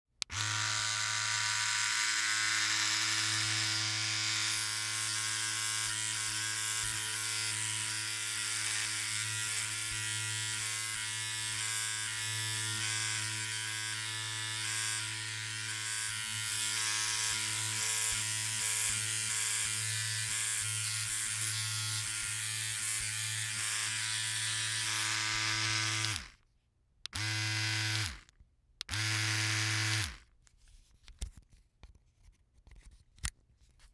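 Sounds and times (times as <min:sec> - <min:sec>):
electric shaver motor hum: 0:00.2 - 0:26.4, 0:27.1 - 0:30.2.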